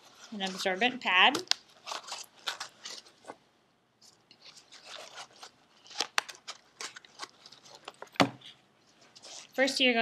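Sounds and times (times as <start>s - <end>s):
gloved hands rustling: 0.0s - 9.9s.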